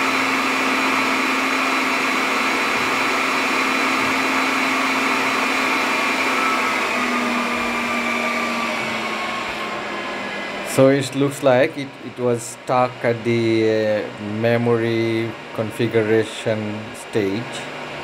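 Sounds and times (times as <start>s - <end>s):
server cooling fans whirring: 0.0s - 18.0s.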